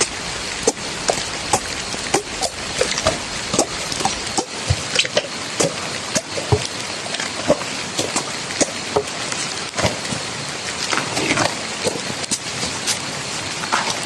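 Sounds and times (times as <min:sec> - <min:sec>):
raindrops tapping: 0:00.0 - 0:14.0
steady rain hissing: 0:00.0 - 0:14.0.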